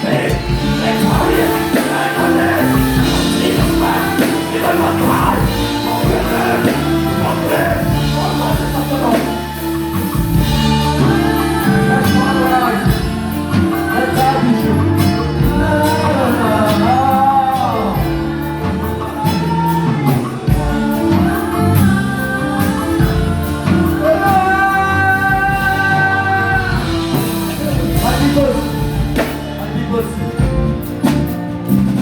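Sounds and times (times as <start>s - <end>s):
person singing gospel: 0.0s - 31.8s
band with drums: 0.0s - 32.0s.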